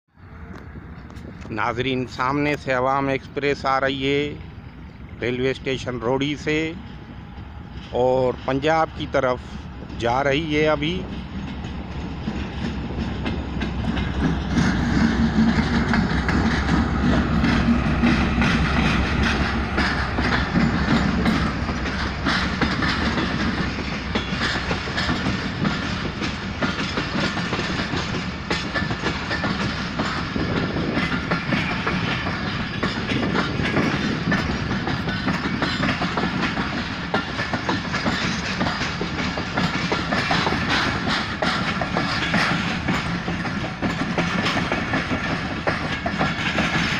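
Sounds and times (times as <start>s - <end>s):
locomotive engine rumble: 0.2s - 46.9s
train wheels clattering over rail joints: 0.4s - 46.9s.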